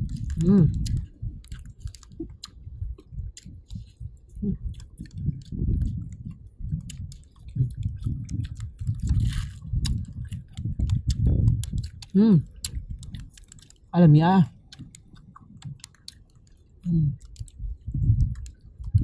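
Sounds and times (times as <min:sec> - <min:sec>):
low rumble: 0:00.0 - 0:15.8, 0:16.8 - 0:19.0
chewing corn crunches: 0:00.0 - 0:19.0.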